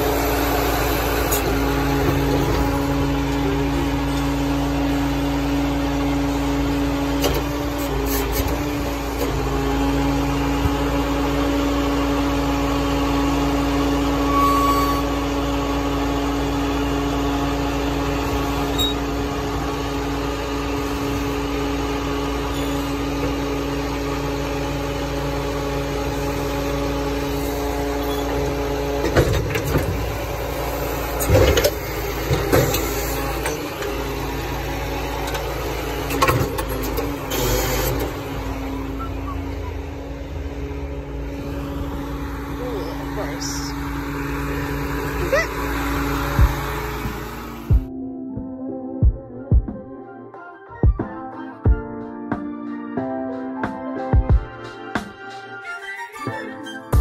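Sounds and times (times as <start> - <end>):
lorry engine with hydraulics: 0.0 - 47.8.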